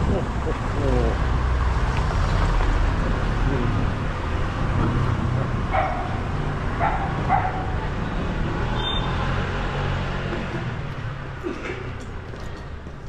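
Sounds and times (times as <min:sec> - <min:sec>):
car engine rumbling: 0:00.0 - 0:11.6.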